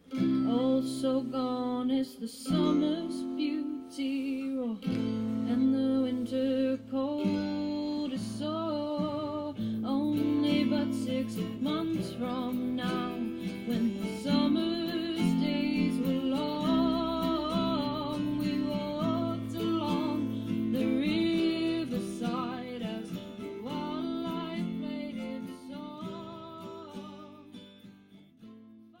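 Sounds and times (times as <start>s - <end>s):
acoustic guitar song: 0.0s - 29.0s.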